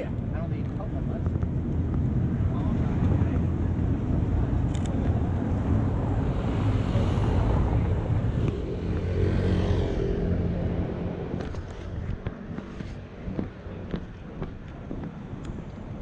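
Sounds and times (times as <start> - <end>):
road traffic rumble: 0.0 - 16.0
vehicle passing: 2.3 - 15.4.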